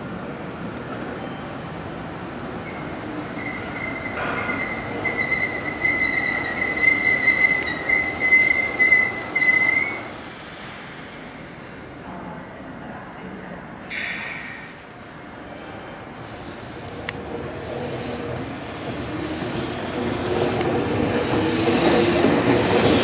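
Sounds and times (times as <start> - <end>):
train wheels squealing on rails: 1.0 - 12.0, 13.8 - 23.0
running train rumble: 1.7 - 23.0.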